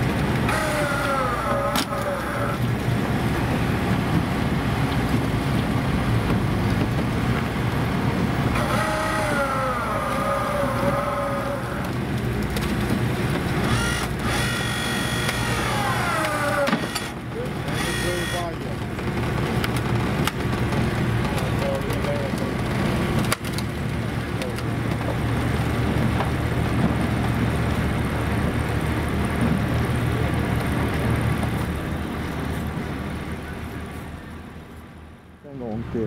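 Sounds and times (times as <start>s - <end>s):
diesel engines running under load: 0.0s - 36.0s.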